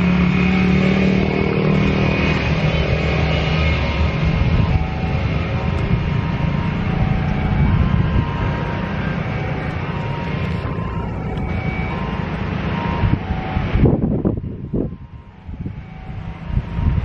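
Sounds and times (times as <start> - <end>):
jet engines rumbling with whine: 0.0 - 17.0.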